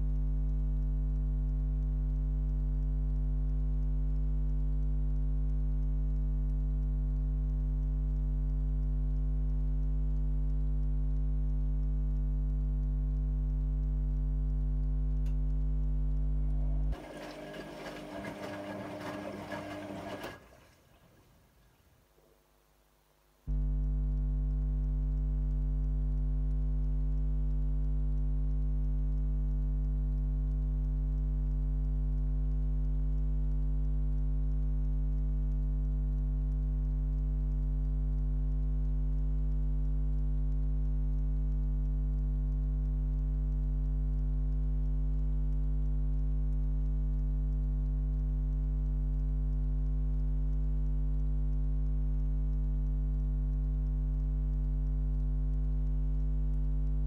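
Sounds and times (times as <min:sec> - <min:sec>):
washing machine electrical hum: 0:00.0 - 0:57.0.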